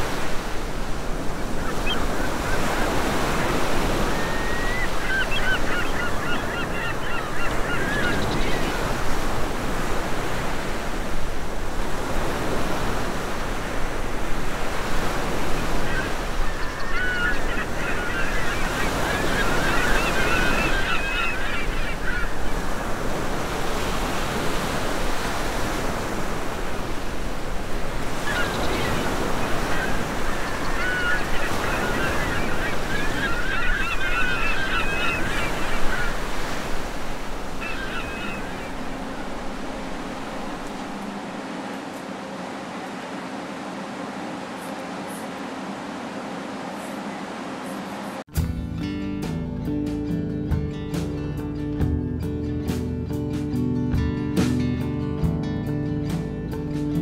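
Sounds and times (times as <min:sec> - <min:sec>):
birds calling: 0:00.0 - 0:48.2
sea waves washing: 0:00.0 - 0:48.3.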